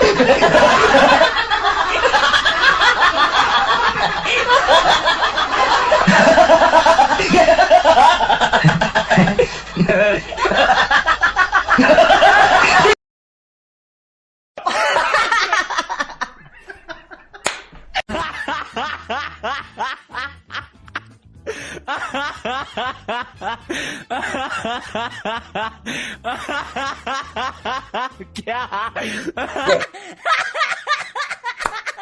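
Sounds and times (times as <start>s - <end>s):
snickering laugh: 0.0s - 13.0s, 14.6s - 17.4s, 18.0s - 32.0s.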